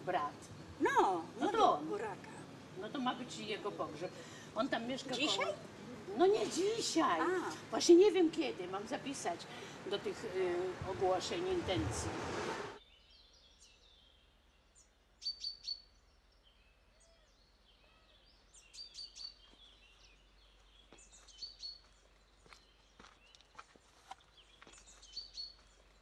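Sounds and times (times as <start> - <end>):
songbirds chirping faintly: 0.0 - 26.0.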